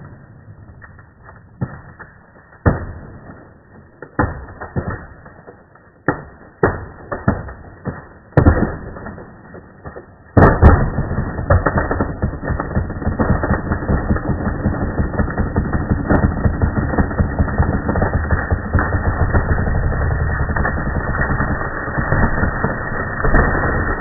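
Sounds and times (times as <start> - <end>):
tree trunk cracking: 0.0 - 24.0.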